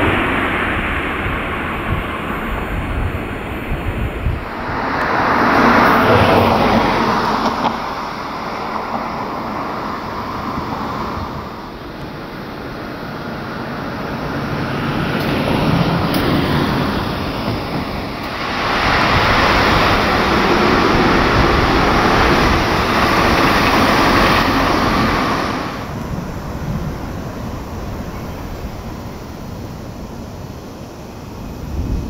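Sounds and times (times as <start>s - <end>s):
passing road traffic: 0.0s - 32.0s.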